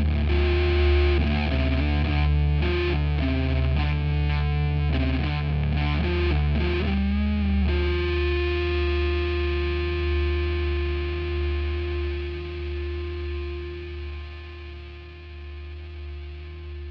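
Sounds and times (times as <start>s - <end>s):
distorted electric guitar: 0.0s - 16.9s.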